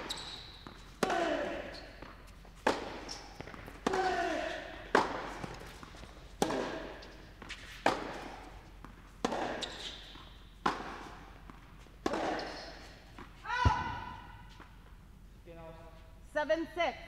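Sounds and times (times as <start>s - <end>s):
tennis ball hit by racket: 0.0s - 14.4s.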